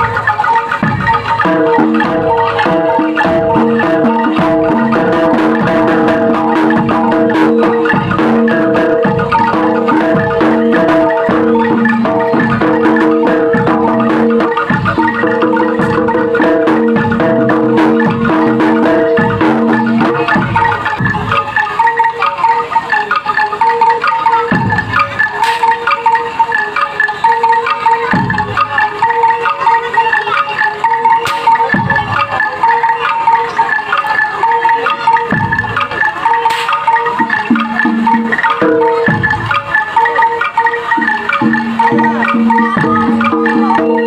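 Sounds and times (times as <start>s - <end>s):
mallet percussion melody: 0.0s - 44.0s.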